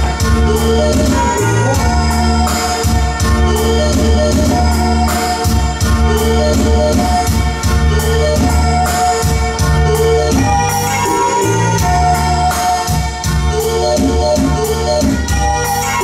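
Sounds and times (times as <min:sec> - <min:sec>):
loud music with heavy bass: 0:00.0 - 0:16.0.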